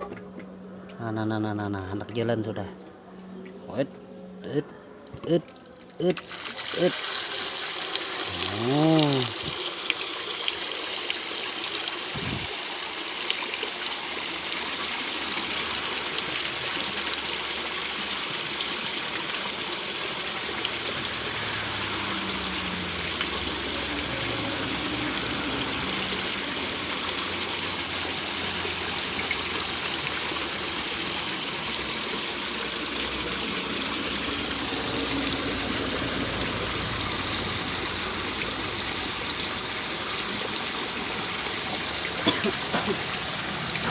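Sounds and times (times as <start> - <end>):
water gushing into pond: 5.2 - 43.9.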